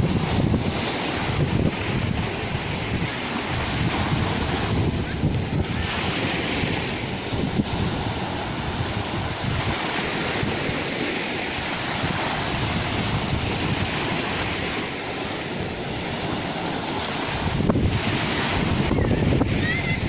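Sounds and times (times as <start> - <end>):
sea waves surging: 0.0 - 20.0
wind buffeting microphone: 0.0 - 20.0.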